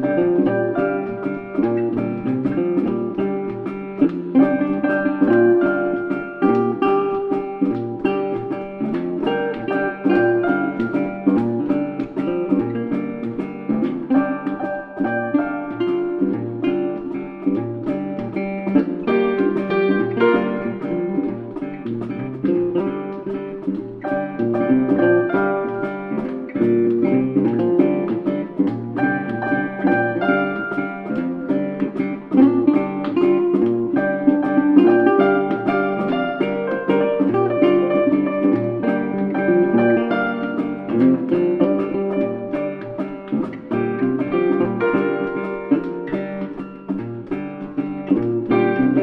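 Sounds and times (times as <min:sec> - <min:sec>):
acoustic guitar with bass beat: 0:00.0 - 0:49.0.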